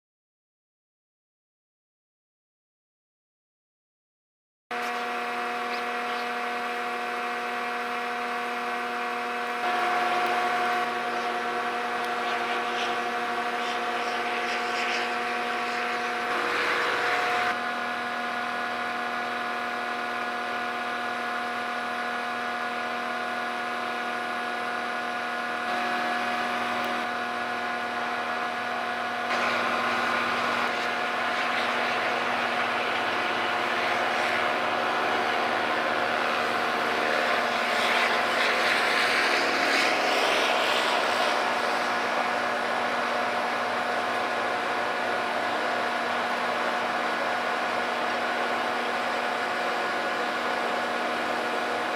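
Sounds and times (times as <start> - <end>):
ferry engines droning: 4.7 - 51.9.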